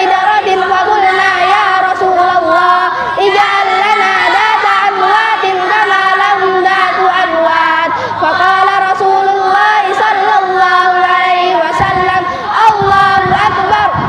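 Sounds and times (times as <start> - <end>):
children chanting in unison: 0.0 - 14.0.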